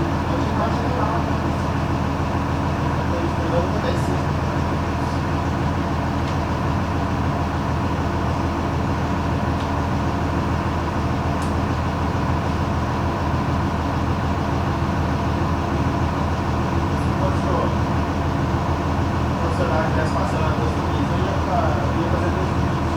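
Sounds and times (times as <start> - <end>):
diesel bus engine running: 0.0 - 22.9.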